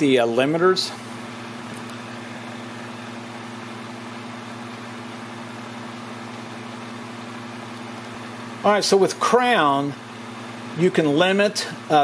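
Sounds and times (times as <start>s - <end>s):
fan-like hiss: 0.0s - 12.0s
low machine hum: 0.0s - 12.0s.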